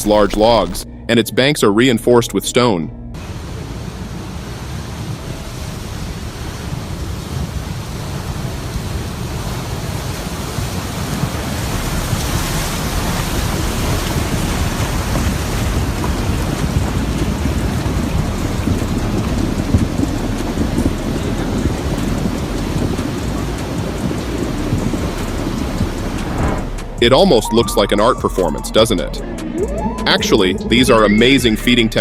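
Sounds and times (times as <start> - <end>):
river floodwater roaring: 3.2 - 31.9.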